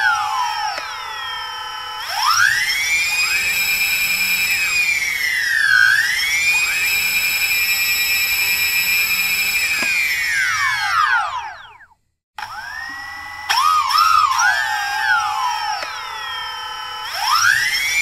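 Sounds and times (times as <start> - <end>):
drone propeller motors whining: 0.0 - 18.0.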